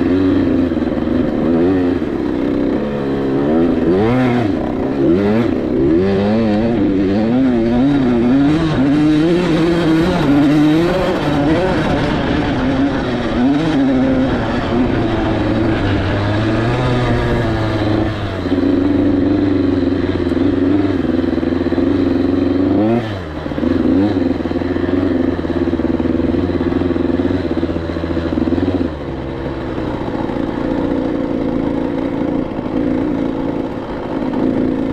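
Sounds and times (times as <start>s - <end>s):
two-stroke dirt bike revving: 0.0s - 34.9s.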